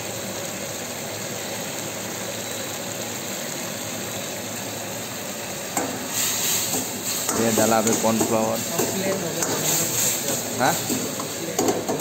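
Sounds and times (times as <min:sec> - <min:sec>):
gas burner roaring: 0:00.0 - 0:12.0
sauce simmering: 0:00.2 - 0:12.0.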